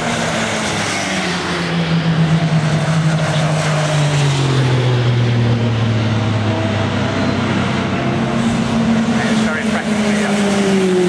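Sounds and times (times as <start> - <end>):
car engine passing by: 0.0 - 11.0
racing car engines: 0.0 - 11.0.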